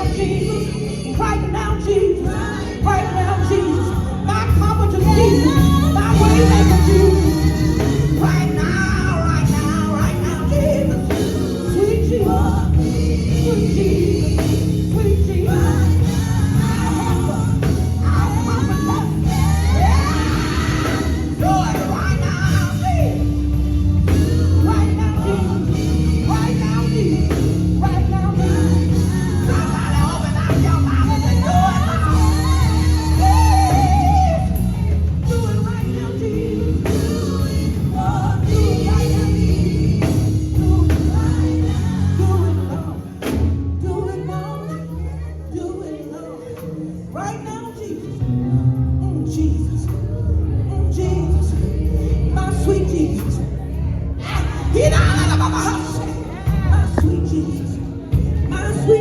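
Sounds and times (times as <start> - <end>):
band playing gospel music: 0.0 - 59.0.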